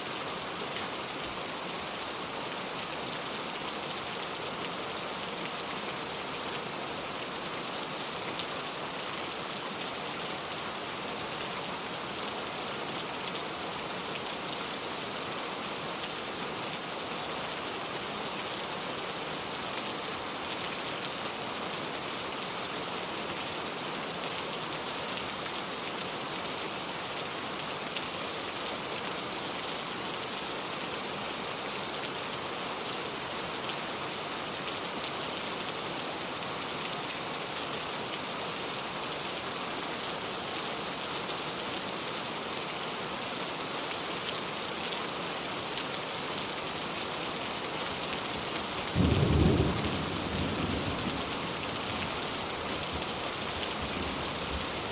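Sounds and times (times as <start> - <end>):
heavy rain pouring: 0.1 - 54.9.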